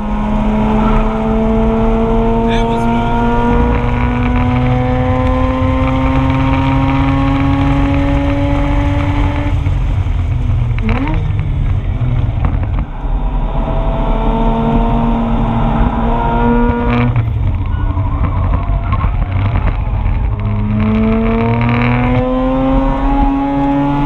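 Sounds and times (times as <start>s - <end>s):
rotary engine revving: 0.0s - 10.0s, 12.2s - 24.0s.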